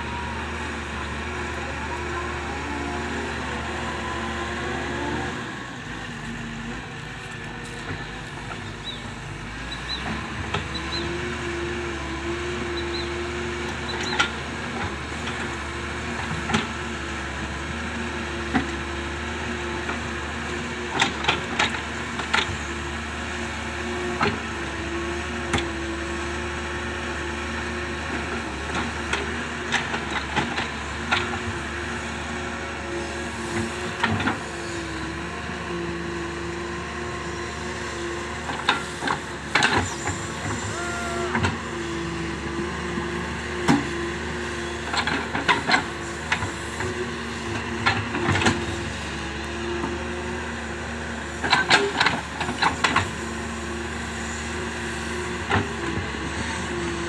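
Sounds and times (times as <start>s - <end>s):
excavator engine drone: 0.0s - 57.0s.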